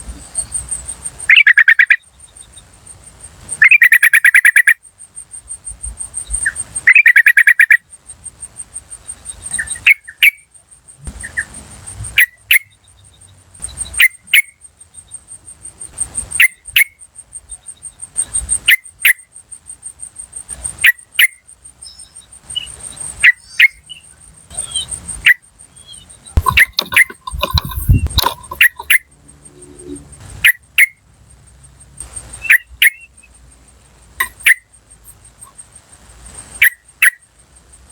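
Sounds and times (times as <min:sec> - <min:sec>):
insect trill: 0:00.0 - 0:37.9.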